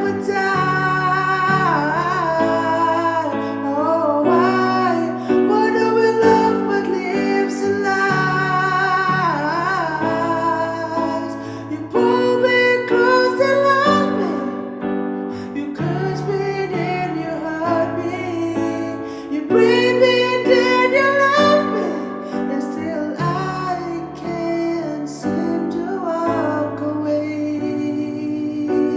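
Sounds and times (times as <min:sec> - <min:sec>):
person singing with vibrato: 0:00.0 - 0:28.9.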